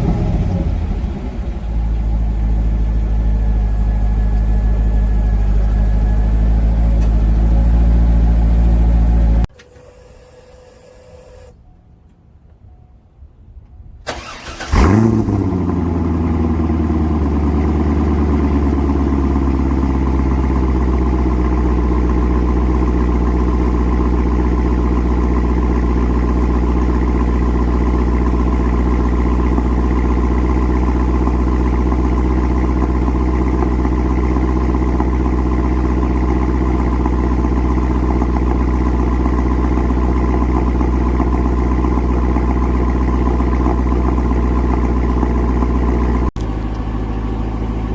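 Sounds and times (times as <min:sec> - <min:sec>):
car engine starting and idling: 0:00.0 - 0:11.7, 0:13.7 - 0:47.9.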